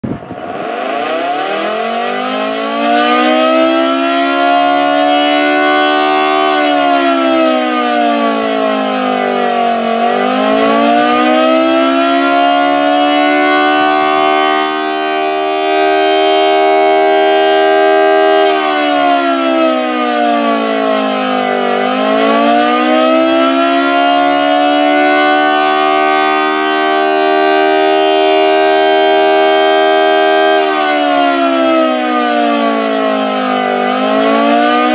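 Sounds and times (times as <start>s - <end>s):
two-tone warning siren: 0.0s - 34.9s.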